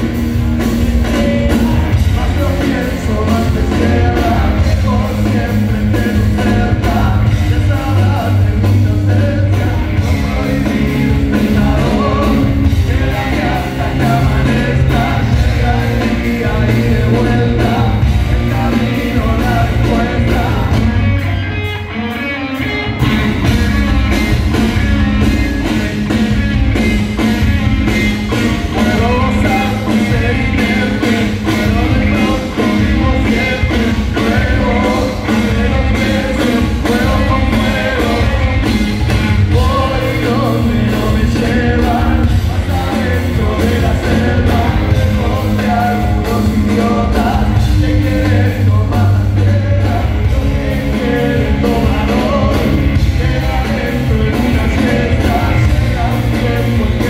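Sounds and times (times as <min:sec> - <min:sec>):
person singing: 0:00.0 - 0:21.9, 0:22.9 - 0:57.0
live rock band playing: 0:00.0 - 0:57.0.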